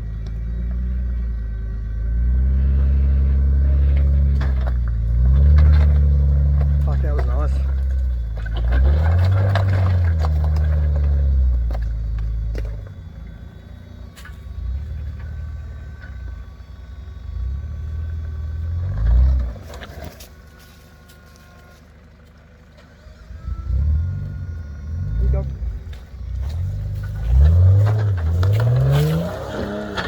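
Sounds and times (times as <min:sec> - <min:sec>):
engine revving: 0:00.0 - 0:30.0.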